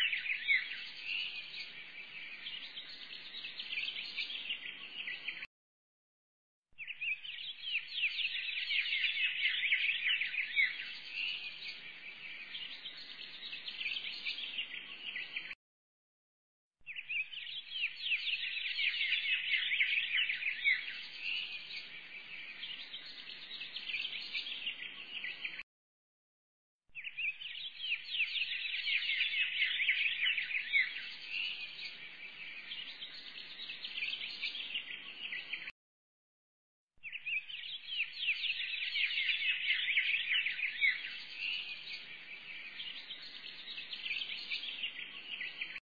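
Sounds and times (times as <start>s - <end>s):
small birds chirping: 0.0s - 5.5s, 6.8s - 15.6s, 16.8s - 25.6s, 26.9s - 35.7s, 37.0s - 45.8s.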